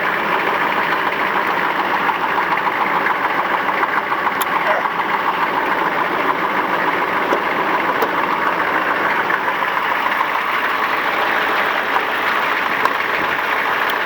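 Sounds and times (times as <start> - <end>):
diesel engine idling with clatter: 0.0 - 14.0.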